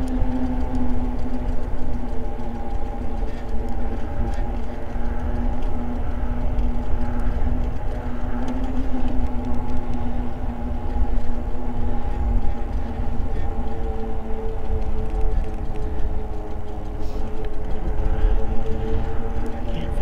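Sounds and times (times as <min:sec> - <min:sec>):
electric bike motor and tyres hum: 0:00.0 - 0:20.0
wind rumble on microphone: 0:00.0 - 0:20.0.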